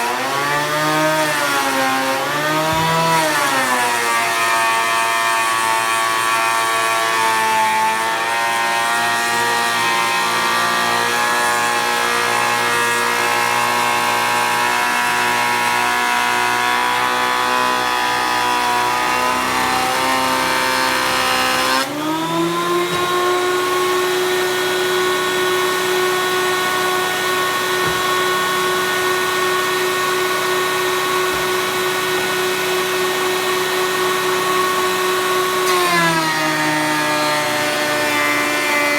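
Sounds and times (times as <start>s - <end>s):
jointer motor whine cutting boards: 0.0s - 38.9s.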